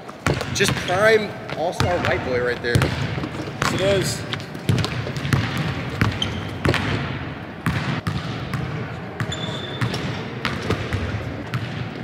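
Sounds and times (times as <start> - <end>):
basketballs bouncing on hardwood: 0.2 - 11.8.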